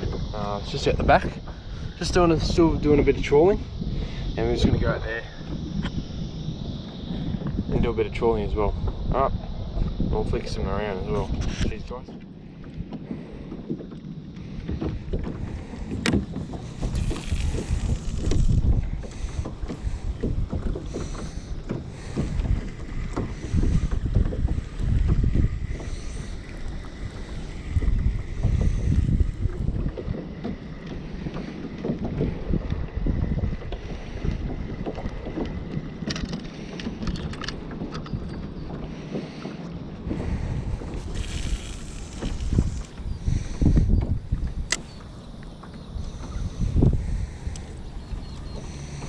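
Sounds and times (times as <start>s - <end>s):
water sloshing against hull: 0.0s - 49.0s
wind buffeting microphone: 0.0s - 49.0s.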